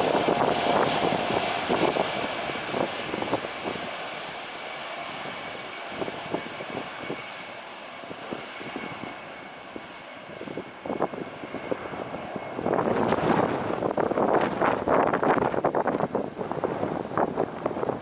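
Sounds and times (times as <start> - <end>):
jet engines rushing and whining: 0.0 - 18.0
wind buffeting microphone: 0.0 - 18.0.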